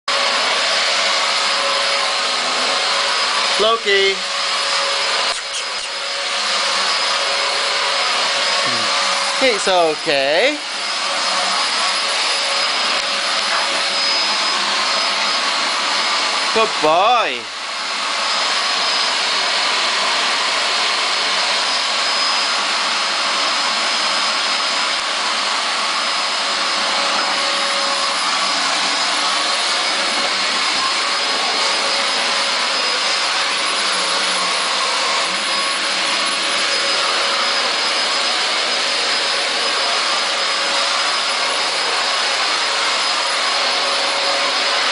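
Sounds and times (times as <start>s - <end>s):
vacuum cleaner running: 0.1s - 44.9s.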